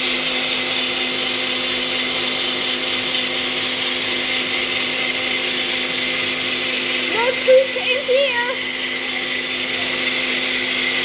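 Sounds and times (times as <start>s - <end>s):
blender motor whirring: 0.0s - 11.0s.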